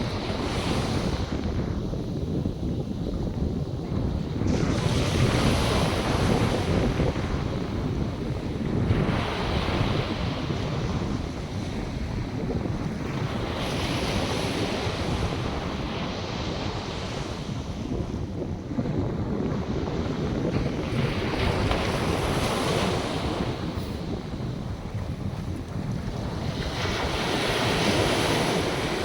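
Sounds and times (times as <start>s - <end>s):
wind rumbling on microphone: 0.0s - 29.0s
waves breaking: 3.0s - 29.0s.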